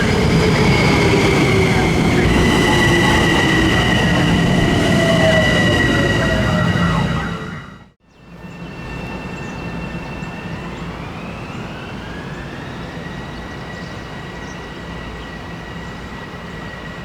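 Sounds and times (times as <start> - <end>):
electric train running past: 0.0 - 17.0
traction motors whining: 0.0 - 17.0.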